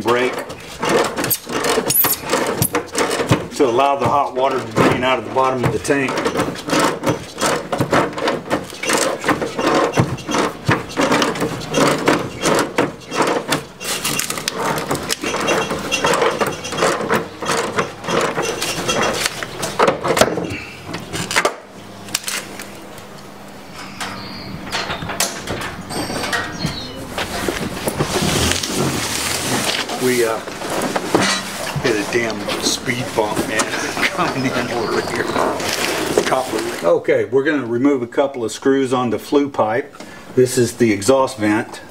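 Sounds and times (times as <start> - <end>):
hard parts knocking and clattering: 0.0 - 22.7, 23.7 - 36.9.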